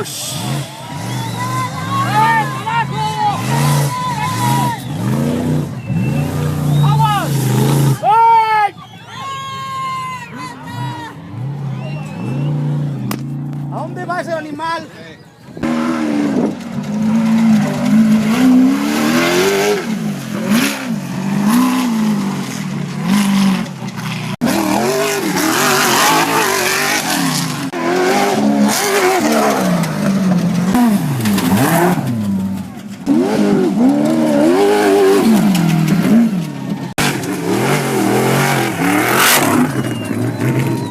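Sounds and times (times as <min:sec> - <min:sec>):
race trucks revving past: 0:00.0 - 0:08.1, 0:09.8 - 0:40.9.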